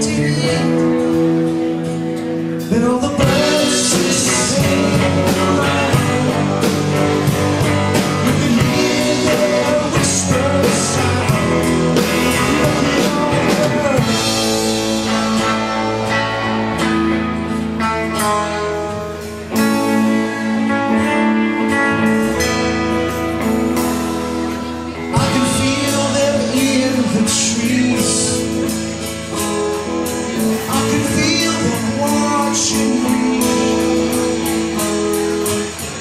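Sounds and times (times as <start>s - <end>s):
bass guitar: 0.0s - 36.0s
drum kit: 0.0s - 36.0s
electric guitar: 0.0s - 36.0s.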